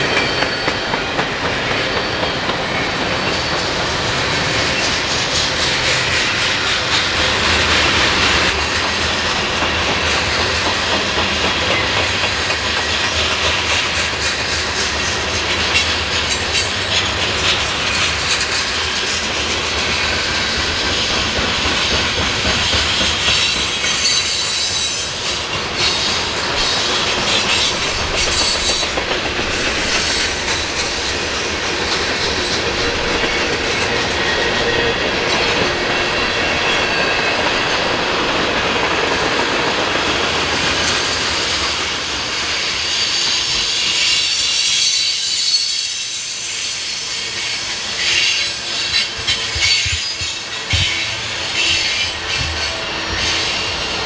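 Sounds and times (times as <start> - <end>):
clickety-clack over rail joints: 0.0 - 46.8, 47.4 - 54.0
train wheels rumbling on rails: 0.0 - 54.0.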